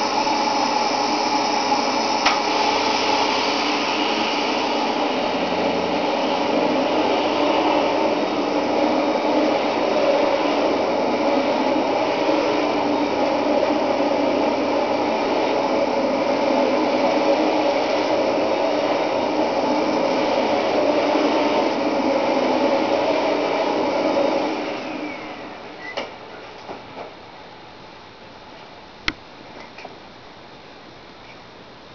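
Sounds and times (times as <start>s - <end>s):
vacuum cleaner running on carpet: 0.0s - 27.1s.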